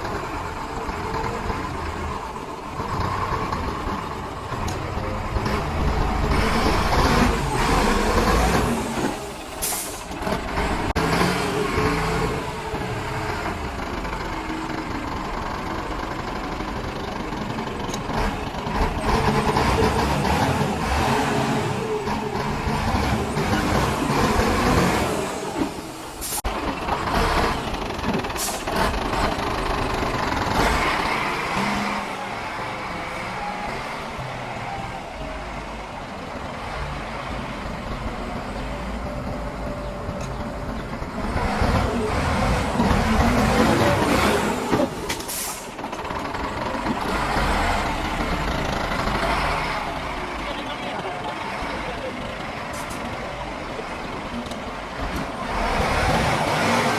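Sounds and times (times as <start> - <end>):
diesel machine running: 0.0 - 56.9.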